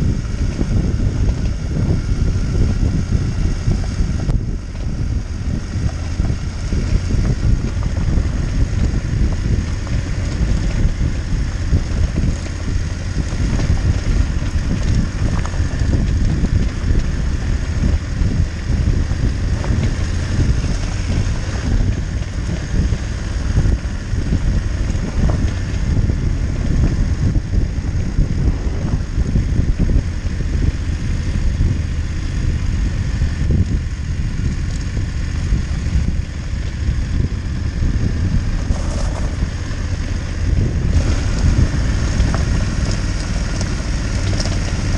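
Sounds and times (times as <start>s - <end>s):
motorcycle engine: 0.0s - 44.9s
wind buffeting microphone: 0.0s - 44.9s.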